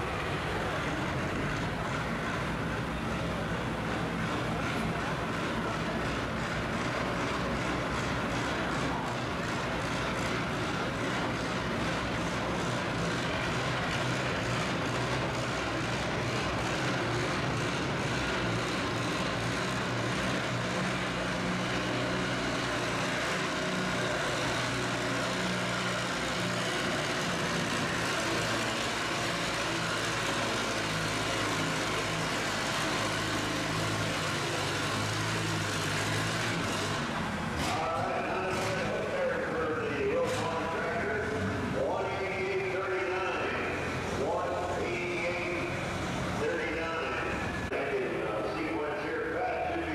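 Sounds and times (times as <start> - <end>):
tractor engine under heavy load: 0.0 - 49.9.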